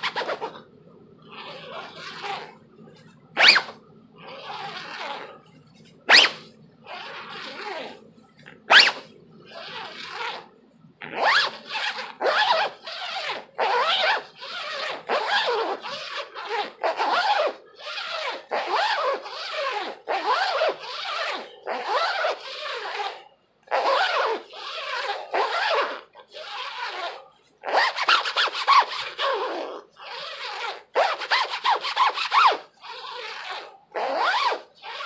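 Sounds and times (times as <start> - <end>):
plastic zipper rasping: 0.0 - 0.6, 1.2 - 8.0, 8.7 - 35.0.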